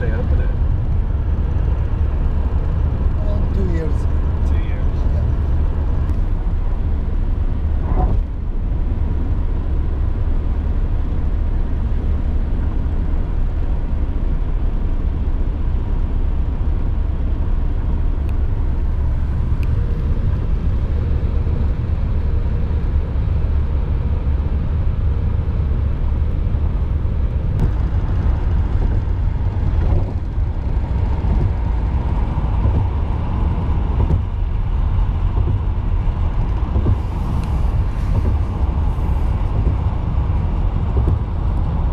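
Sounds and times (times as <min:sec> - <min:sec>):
road and engine rumble in car: 0:00.0 - 0:41.9.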